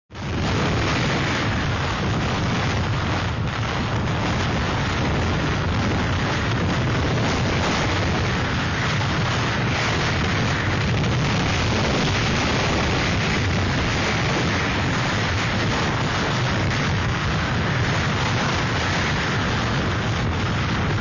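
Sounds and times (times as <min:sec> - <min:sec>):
strong wind rushing: 0:00.1 - 0:21.0
wind buffeting microphone: 0:00.1 - 0:21.0.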